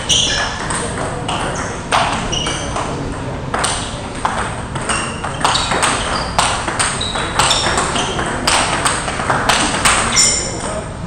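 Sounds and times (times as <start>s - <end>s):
table tennis balls clicking: 0.0s - 10.8s.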